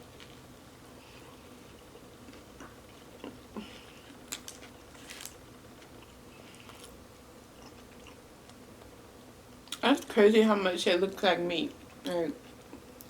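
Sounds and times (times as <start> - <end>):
faint hum: 0.0 - 13.0
soft eating crackles: 0.0 - 13.0.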